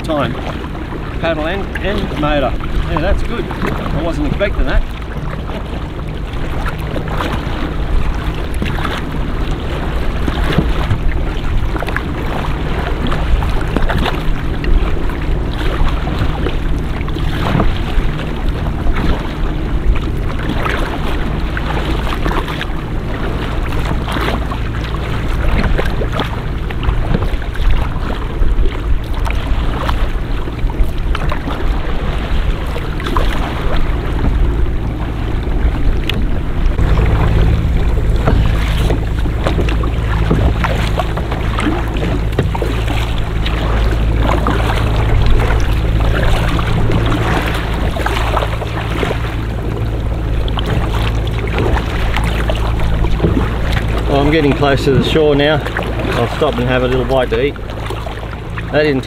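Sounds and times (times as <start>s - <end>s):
paddle strokes splashing: 0.0s - 59.0s.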